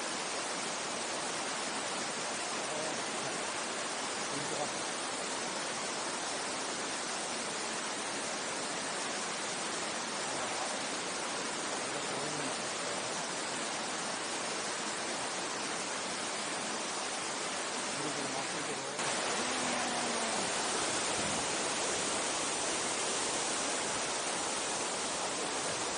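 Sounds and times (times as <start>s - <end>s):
stream water rushing: 0.0s - 25.9s.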